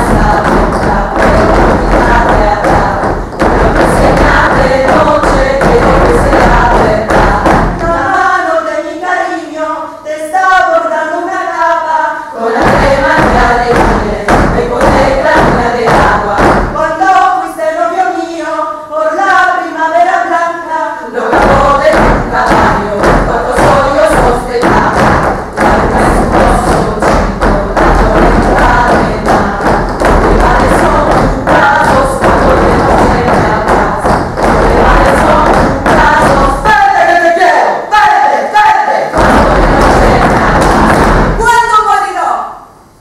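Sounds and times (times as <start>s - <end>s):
rhythmic thumping on wooden stage: 0.0s - 9.3s, 12.4s - 18.1s, 21.1s - 41.8s
group of voices singing: 0.0s - 41.5s.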